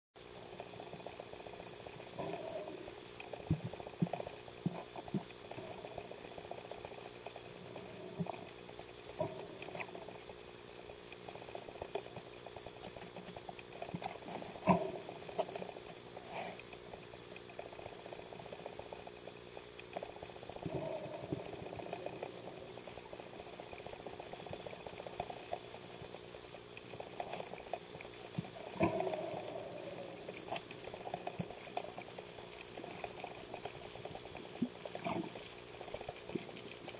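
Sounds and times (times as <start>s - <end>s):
faint steady hum: 0.2s - 36.9s
underwater gurgling and bubbling: 0.2s - 36.9s
underwater knocks and clicks: 0.6s - 36.9s.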